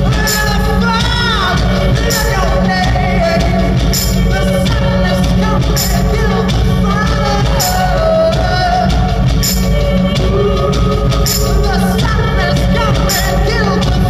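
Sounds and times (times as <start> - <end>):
electronic music: 0.0 - 14.0
heavy bass: 0.0 - 14.0
man singing into microphone: 0.0 - 14.0.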